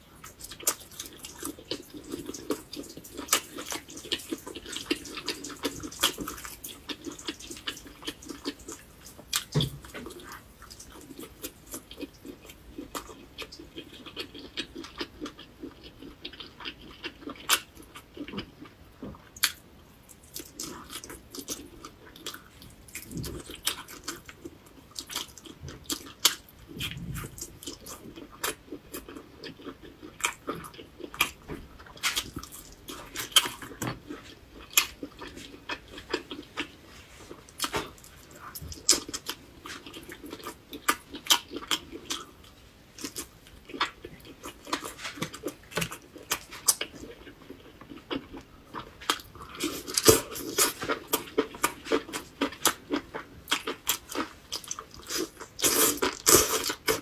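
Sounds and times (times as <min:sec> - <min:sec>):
chewing food: 0:00.0 - 0:57.0.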